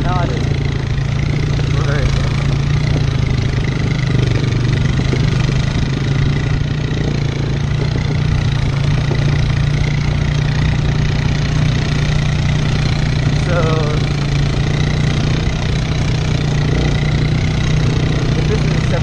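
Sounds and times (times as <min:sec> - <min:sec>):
atv engine running under load: 0:00.0 - 0:19.0
rough rattling noise: 0:00.0 - 0:19.0.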